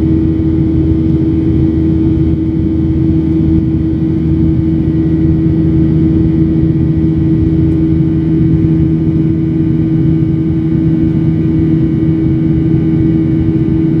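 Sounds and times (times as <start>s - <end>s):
constant hum: 0.0s - 14.0s
jet engines droning: 0.0s - 14.0s.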